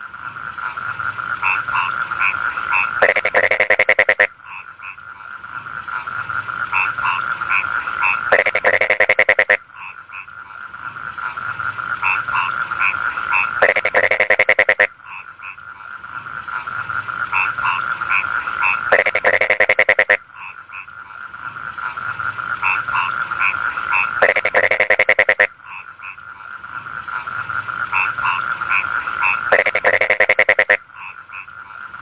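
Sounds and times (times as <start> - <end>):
droning frog chorus: 0.0 - 32.0
frog rattling croak: 0.0 - 32.0
short frog calls: 0.0 - 32.0.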